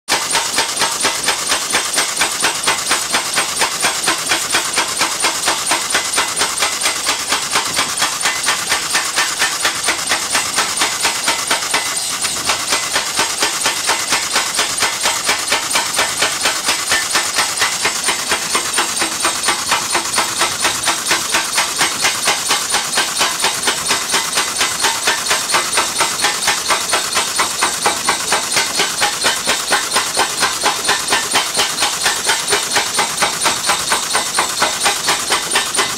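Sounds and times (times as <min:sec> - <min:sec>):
pneumatic piling hammer blows: 0:00.1 - 0:35.9.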